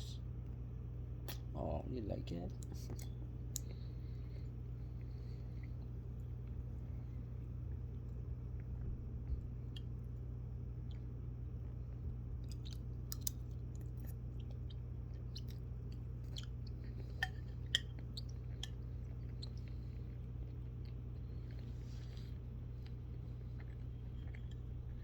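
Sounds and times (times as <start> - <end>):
steady low hum: 0.0 - 25.0
food crunching while chewed: 2.5 - 25.0.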